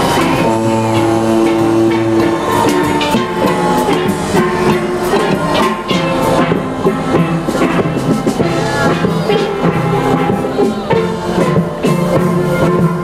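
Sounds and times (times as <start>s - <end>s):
backing drums: 0.0s - 13.0s
steel drums playing: 0.0s - 13.0s.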